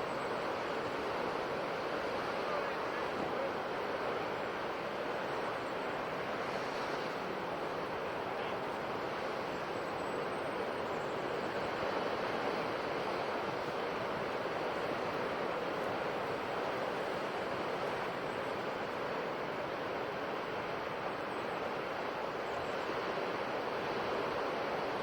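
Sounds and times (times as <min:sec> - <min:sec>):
ocean surf washing on shore: 0:00.0 - 0:25.0.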